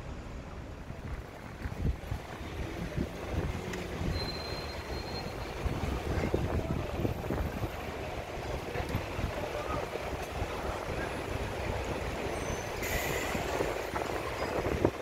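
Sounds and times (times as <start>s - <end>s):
street traffic: 0.0s - 15.0s
wind gusting on microphone: 0.9s - 15.0s.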